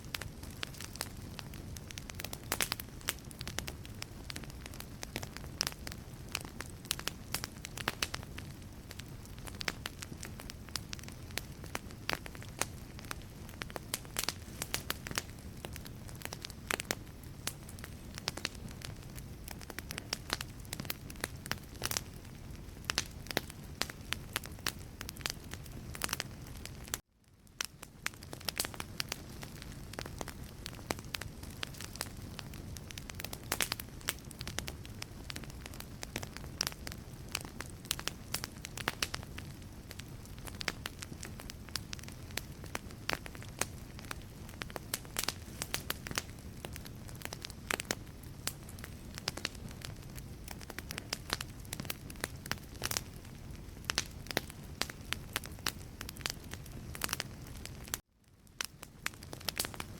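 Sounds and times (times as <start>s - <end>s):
logs crackling and popping: 0.0s - 59.9s
low rumble of flame: 0.0s - 59.9s.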